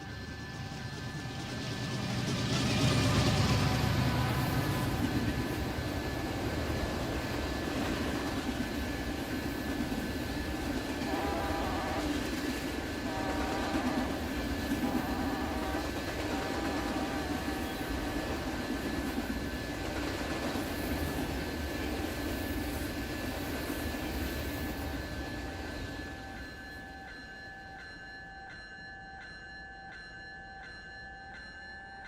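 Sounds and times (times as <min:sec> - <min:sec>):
freight train rumbling past: 0:00.0 - 0:27.2.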